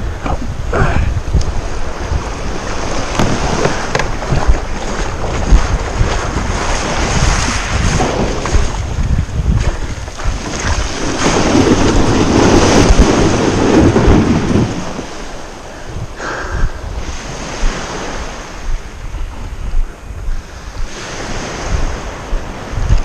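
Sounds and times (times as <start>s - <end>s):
waves washing on shingle beach: 0.0s - 19.5s, 20.3s - 23.0s
wind rumbling on microphone: 0.0s - 23.0s.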